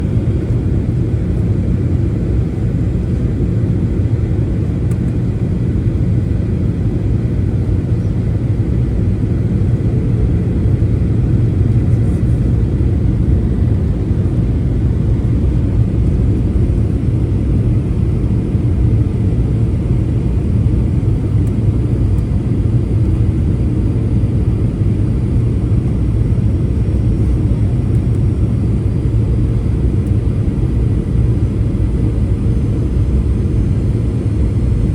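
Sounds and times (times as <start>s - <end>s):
aircraft rumble: 0.0s - 34.9s.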